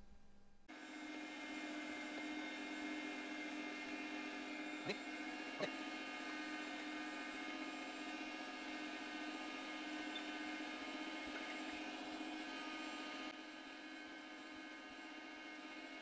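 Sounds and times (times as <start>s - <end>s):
meat grinder motor humming: 0.7s - 16.0s.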